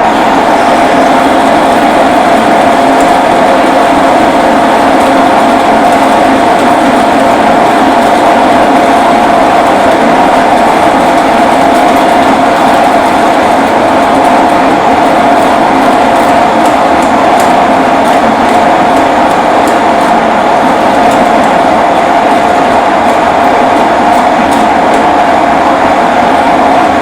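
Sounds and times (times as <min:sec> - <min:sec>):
metal lathe machining with whine: 0:00.0 - 0:27.0.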